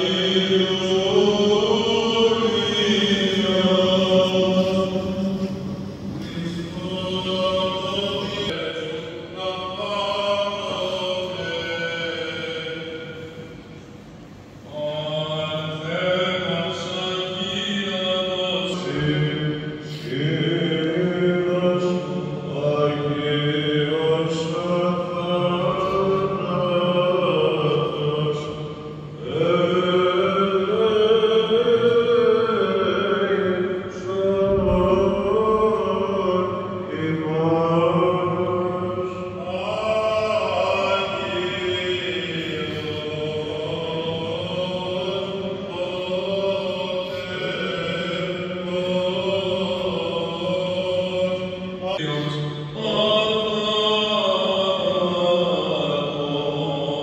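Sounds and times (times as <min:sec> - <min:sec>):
slow vocal chant: 0:00.0 - 0:57.0.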